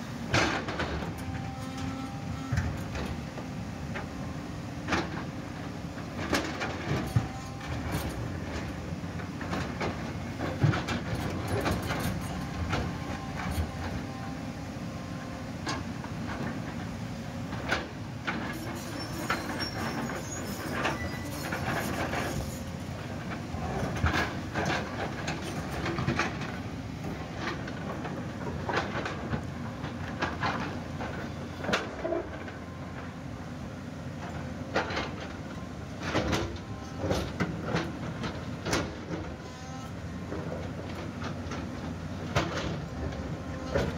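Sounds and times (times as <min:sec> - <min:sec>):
excavator diesel engine: 0:00.0 - 0:43.9.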